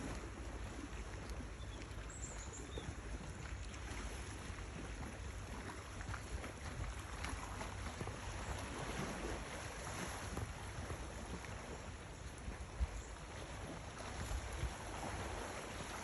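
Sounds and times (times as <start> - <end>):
sea washing on shore: 0.0 - 16.0
wind: 0.0 - 16.0.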